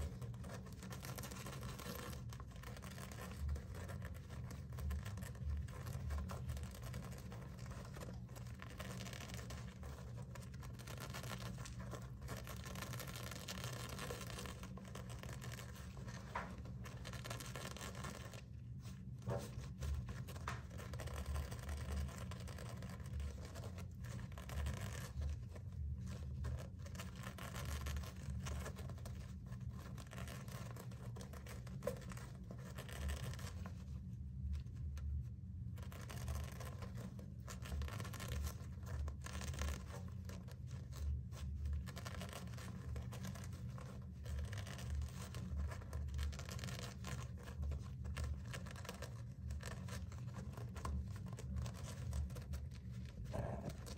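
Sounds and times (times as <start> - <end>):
hamster scratching fabric: 0.0 - 53.9.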